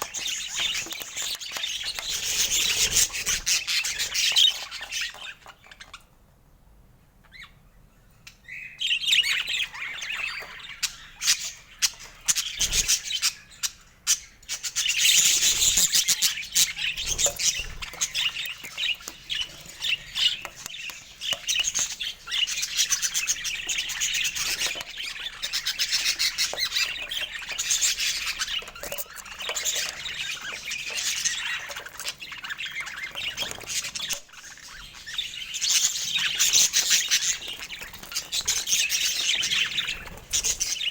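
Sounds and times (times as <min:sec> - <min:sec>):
budgerigars chattering and warbling: 0:00.0 - 0:06.1, 0:08.3 - 0:40.9.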